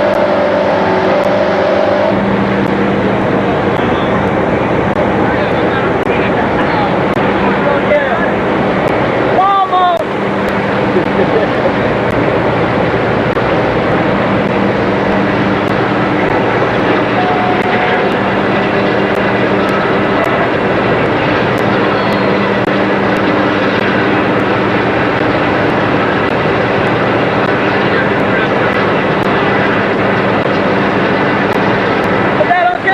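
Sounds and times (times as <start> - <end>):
boat engine droning: 0.0 - 32.9
water noise: 0.0 - 32.9
wind: 0.0 - 32.9.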